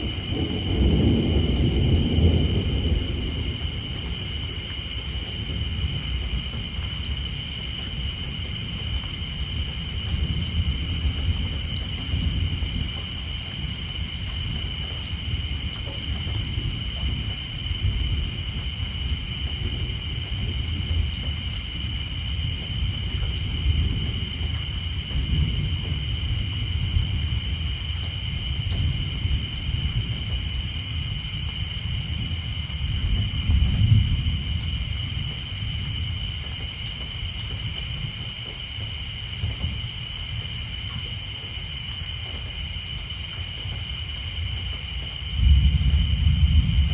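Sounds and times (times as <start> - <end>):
distant thunder rumbling: 0.0 - 41.1, 44.5 - 46.9
rain pattering on a tin roof: 0.0 - 46.9
tree frogs chorus: 0.0 - 46.9.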